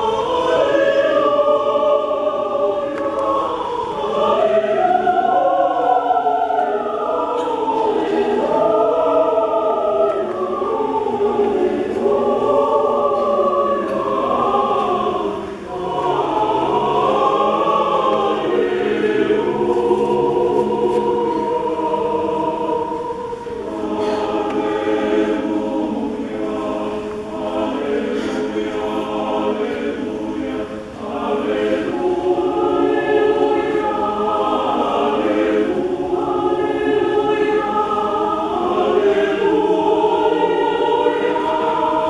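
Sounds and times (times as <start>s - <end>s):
choir singing: 0.0s - 42.0s.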